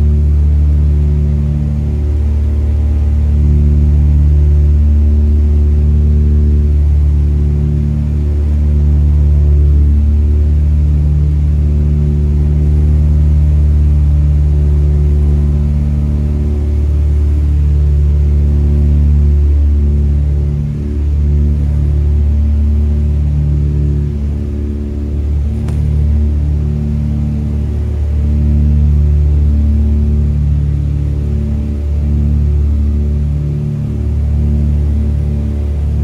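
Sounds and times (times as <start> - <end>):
propeller plane engines droning: 0.0 - 36.0.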